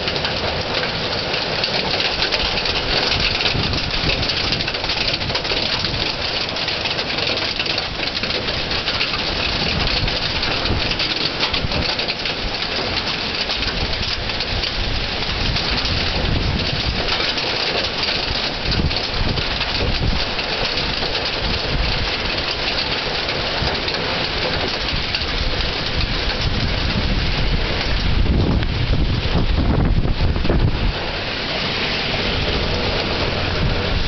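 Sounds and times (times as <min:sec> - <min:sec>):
hail pelting down: 0:00.0 - 0:34.0
wind buffeting microphone: 0:00.0 - 0:34.0.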